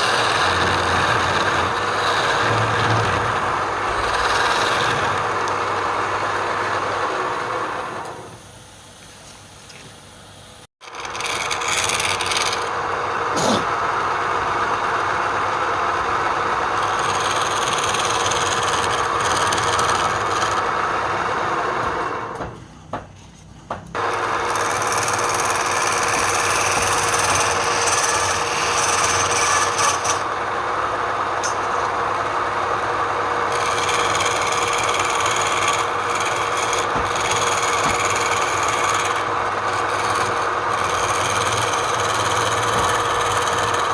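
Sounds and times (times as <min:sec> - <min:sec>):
tool scraping spinning wood: 0:00.0 - 0:08.3, 0:10.8 - 0:22.4, 0:23.2 - 0:43.9.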